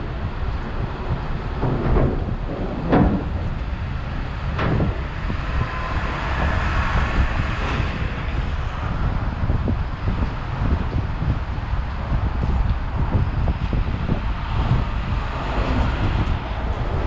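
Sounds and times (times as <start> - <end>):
road traffic rumble: 0.0 - 17.0
wind on microphone: 0.0 - 17.0.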